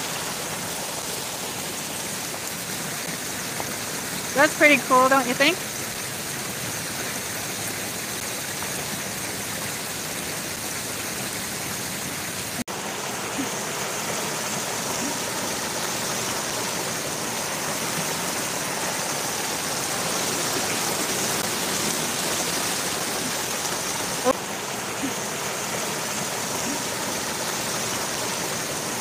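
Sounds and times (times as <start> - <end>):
water splashing down rocks: 0.0 - 29.0.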